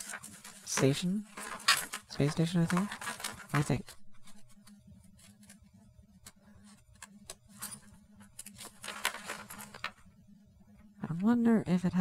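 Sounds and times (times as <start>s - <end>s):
paper pages rustling: 0.0s - 10.0s
low hum: 0.0s - 12.0s.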